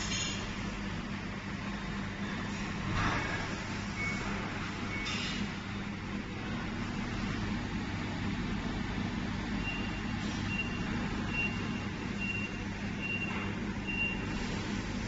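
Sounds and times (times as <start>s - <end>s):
machine low hum: 0.0s - 15.0s.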